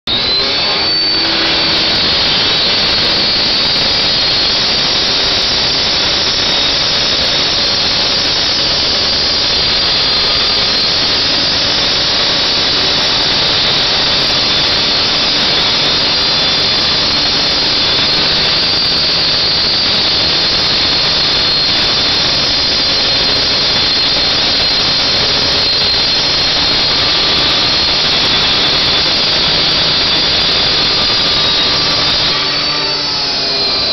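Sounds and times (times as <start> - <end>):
cut-off saw grinding: 0.1 - 33.9.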